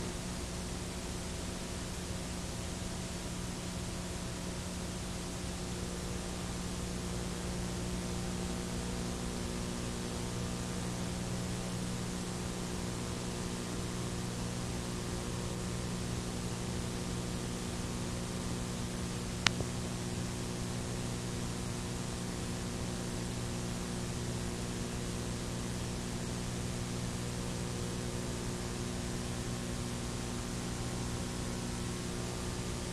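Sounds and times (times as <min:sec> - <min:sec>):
low mains hum: 0:00.0 - 0:32.9
tape hiss: 0:00.0 - 0:32.9.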